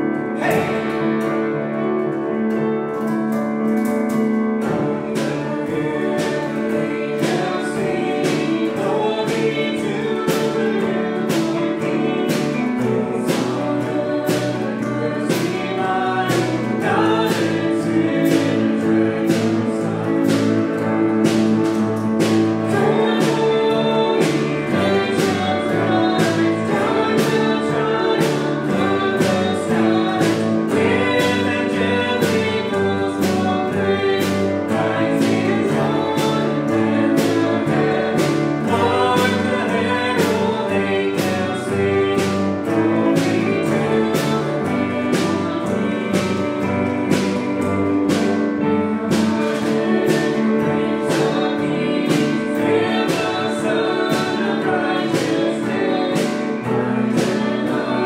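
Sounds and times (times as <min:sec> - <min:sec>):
band with steady beat: 0:00.0 - 0:58.0
people singing worship music: 0:00.0 - 0:58.0.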